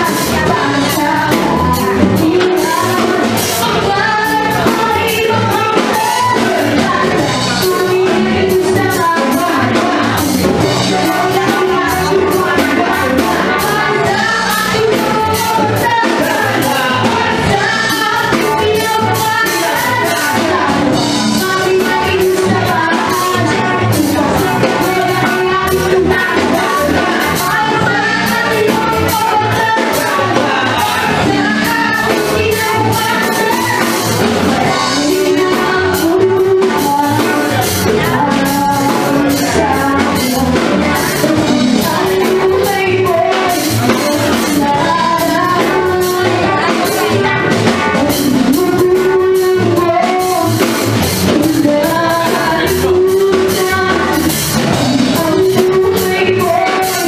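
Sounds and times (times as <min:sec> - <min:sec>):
live rock band: 0:00.0 - 0:57.0
person singing: 0:00.0 - 0:57.0.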